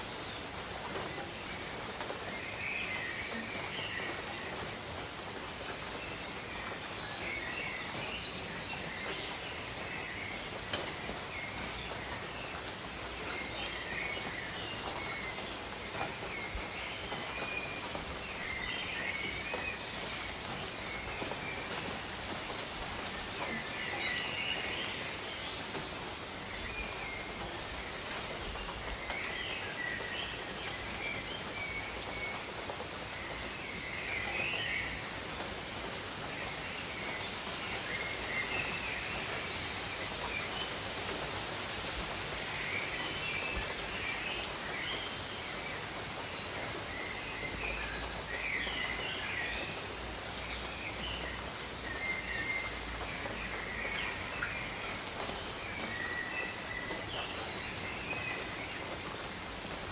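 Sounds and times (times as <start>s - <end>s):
gentle rain falling on leaves: 0.0s - 59.9s.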